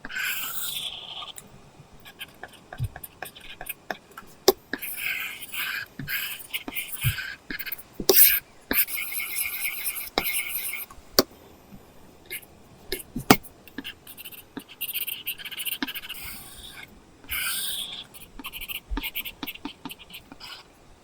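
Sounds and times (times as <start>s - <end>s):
stylus scratching on a screen: 0.0s - 1.4s, 2.0s - 10.9s, 12.3s - 20.7s.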